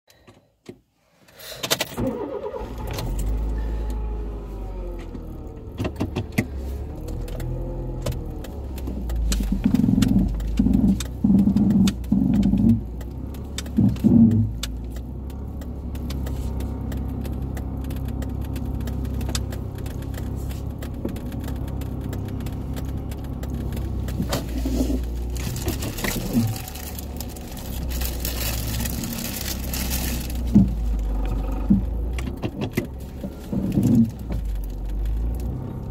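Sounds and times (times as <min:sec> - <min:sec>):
car engine from inside cabin: 0:02.0 - 0:35.9.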